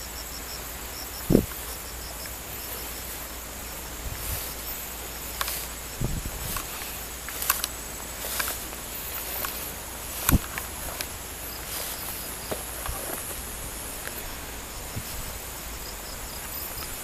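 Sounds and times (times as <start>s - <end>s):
insect high pulse: 0.0s - 17.0s
insects chirping: 0.0s - 17.0s
steady high hiss: 0.0s - 17.0s
footsteps through grass: 0.9s - 17.0s.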